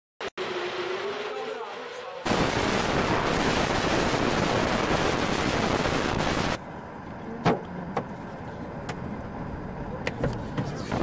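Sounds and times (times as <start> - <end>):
wind and road noise in car: 0.4 - 11.0.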